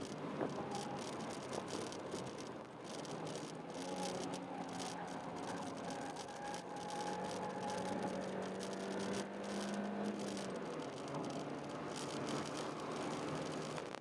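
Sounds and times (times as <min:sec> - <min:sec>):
car engine running: 0:00.0 - 0:14.0
road and tyre noise: 0:00.0 - 0:14.0.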